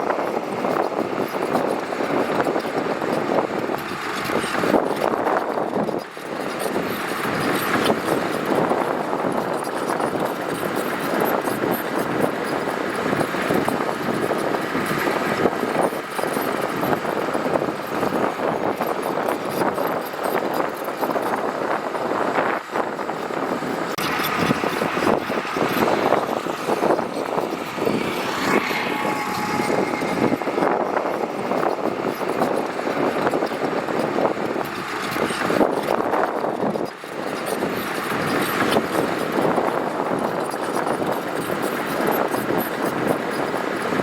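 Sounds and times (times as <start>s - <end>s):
diesel engine running: 0.0s - 44.0s
heavy machinery working gravel: 0.0s - 44.0s.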